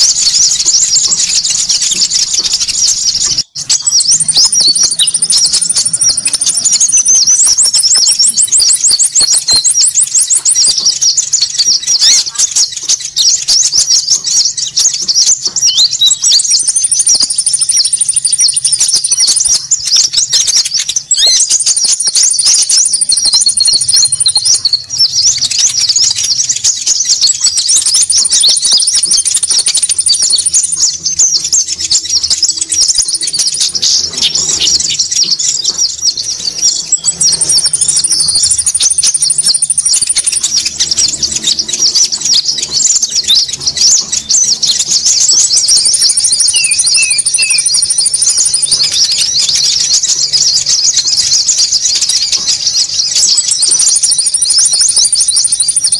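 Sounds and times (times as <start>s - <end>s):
songbirds chirping: 0.0s - 55.9s
thin high bird trill: 0.0s - 55.9s.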